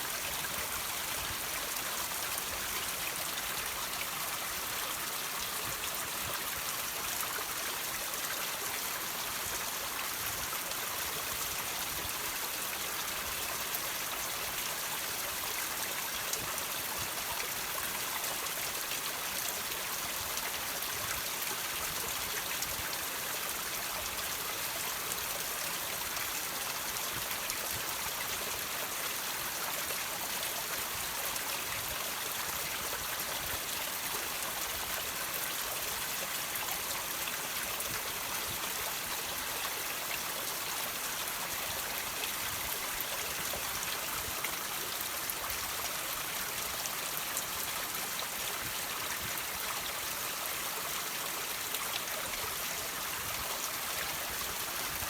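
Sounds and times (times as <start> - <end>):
water trickling over rocks: 0.0 - 55.0.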